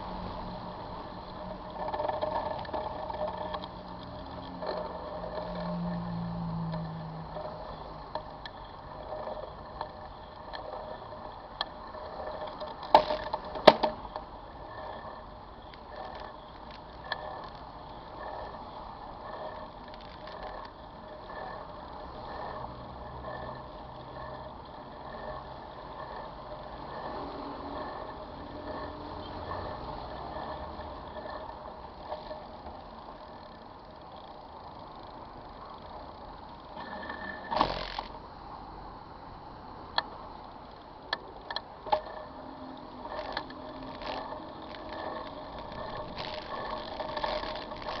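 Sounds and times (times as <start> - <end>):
bicycle rolling rumble and rattle: 0.0 - 48.0.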